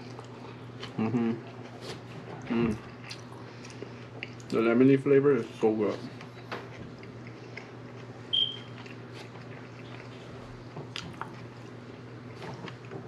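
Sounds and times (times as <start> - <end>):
quiet chewing: 0.0 - 4.6, 5.4 - 13.0
steady low hum: 0.0 - 13.0.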